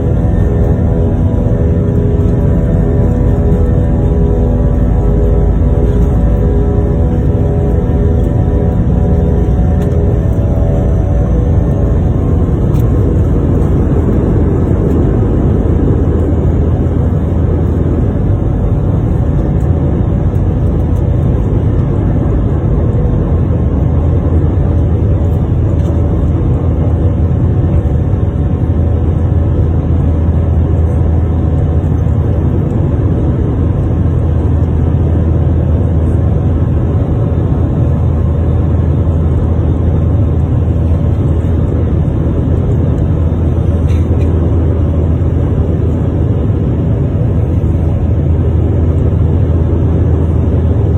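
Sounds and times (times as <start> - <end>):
jet engines rumbling: 0.0 - 50.9.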